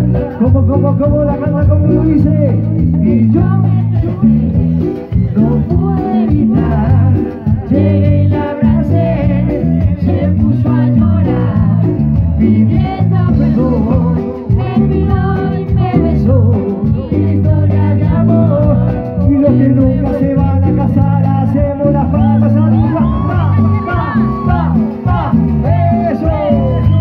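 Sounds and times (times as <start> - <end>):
latin band music: 0.0 - 27.0
person singing: 0.0 - 27.0.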